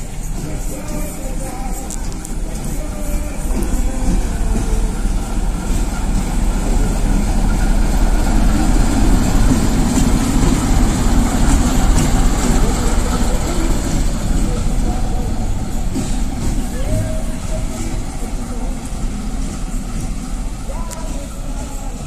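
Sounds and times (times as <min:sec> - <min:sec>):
diesel locomotive rumbling past: 0:00.0 - 0:22.0.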